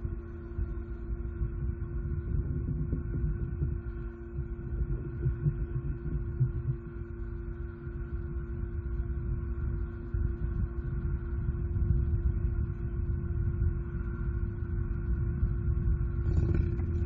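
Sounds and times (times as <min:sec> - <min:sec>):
low flickering rumble: 0:00.0 - 0:17.0
steady tonal hum: 0:00.0 - 0:17.0.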